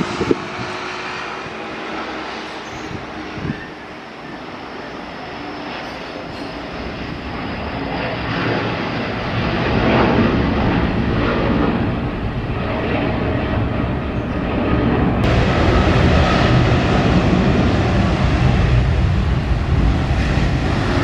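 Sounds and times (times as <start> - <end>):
jet airliner roar: 0.0 - 21.0.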